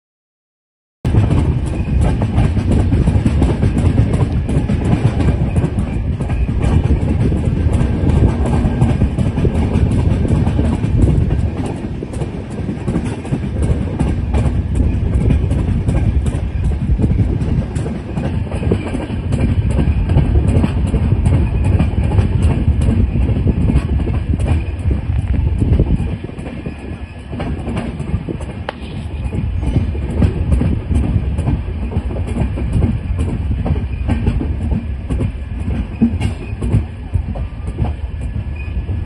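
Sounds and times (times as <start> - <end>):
train wheels rumbling on rails: 1.1 - 39.0.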